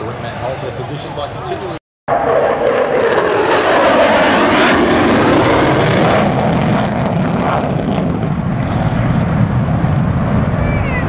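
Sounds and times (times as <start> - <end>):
aircraft flying past: 2.1 - 11.0.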